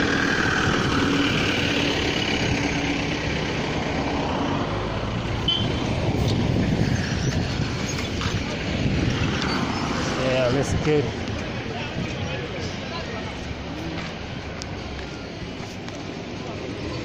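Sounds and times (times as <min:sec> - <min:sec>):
bus driving past: 0:00.0 - 0:17.0
road traffic noise: 0:00.0 - 0:17.0.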